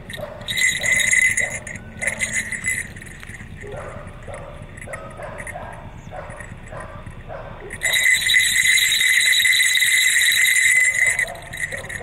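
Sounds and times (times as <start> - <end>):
small jingle bells jingling: 0.0 - 12.0.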